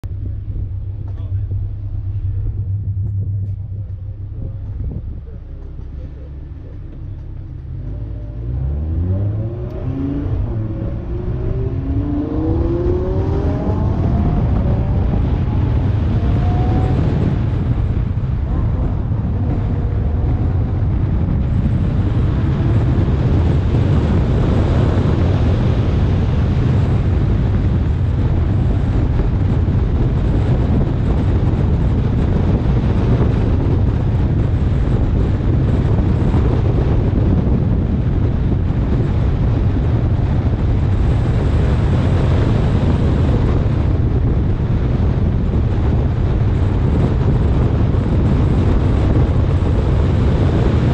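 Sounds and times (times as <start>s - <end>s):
car engine accelerating: 0.0s - 50.9s
wind and road noise: 0.0s - 50.9s.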